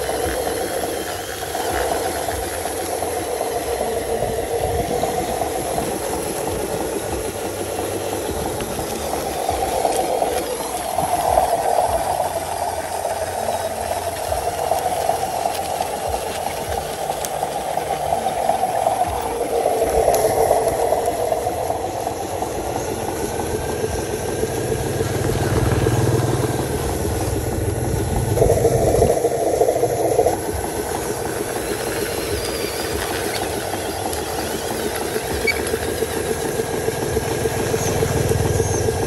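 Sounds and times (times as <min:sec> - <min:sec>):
model truck motor droning: 0:00.0 - 0:39.0.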